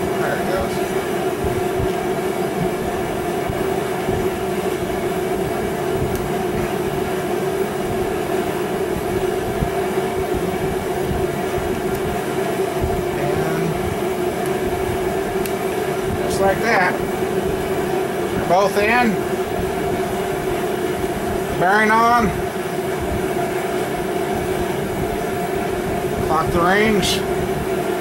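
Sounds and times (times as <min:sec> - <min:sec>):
heater droning: 0:00.0 - 0:28.0
two-tone hum: 0:00.0 - 0:28.0.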